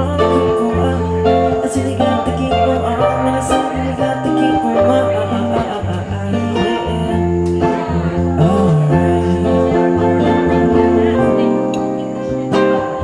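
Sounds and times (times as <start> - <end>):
guitar-led instrumental jam: 0.0 - 13.0
low bass line: 0.0 - 13.0.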